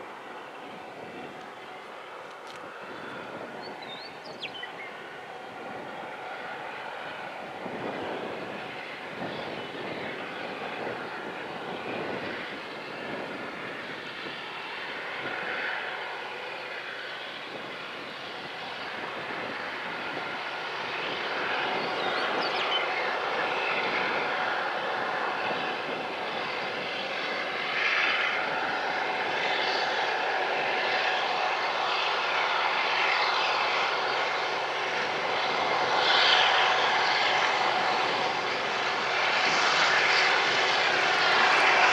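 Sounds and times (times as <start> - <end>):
diesel locomotive engine drone: 0.0 - 41.9.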